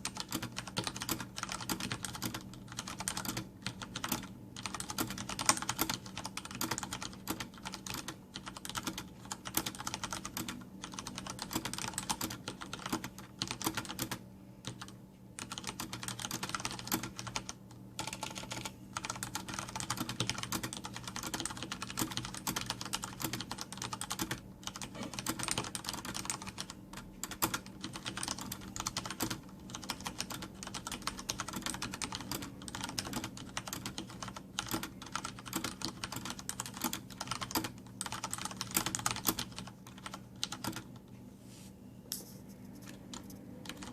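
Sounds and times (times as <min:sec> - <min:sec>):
fast typing on mechanical keyboard: 0:00.0 - 0:41.0, 0:43.1 - 0:43.9.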